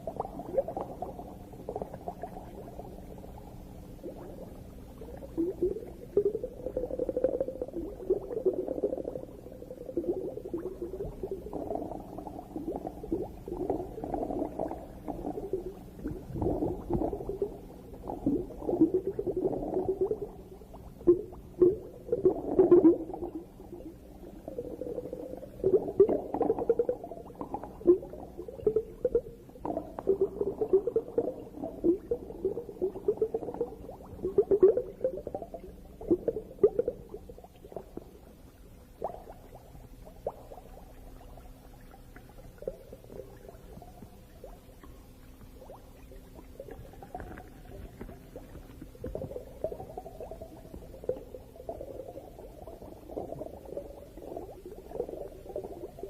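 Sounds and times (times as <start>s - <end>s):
muffled underwater bubbling: 0.0s - 56.0s.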